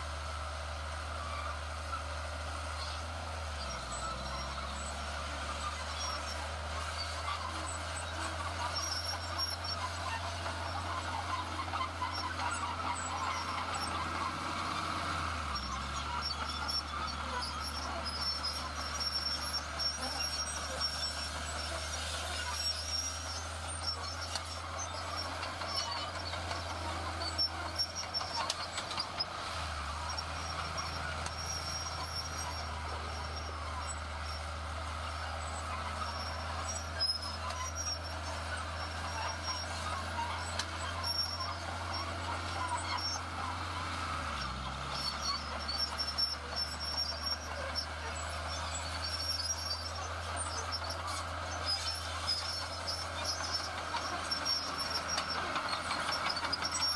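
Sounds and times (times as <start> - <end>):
diesel machinery engine drone: 0.0 - 56.9.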